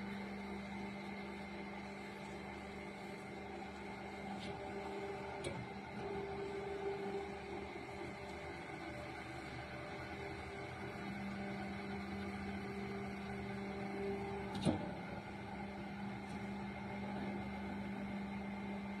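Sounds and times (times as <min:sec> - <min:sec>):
hydraulic press motor hum: 0:00.0 - 0:19.0.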